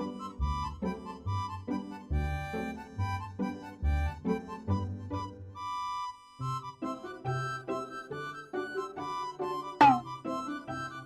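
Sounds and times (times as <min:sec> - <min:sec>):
background music chords: 0:00.0 - 0:11.0.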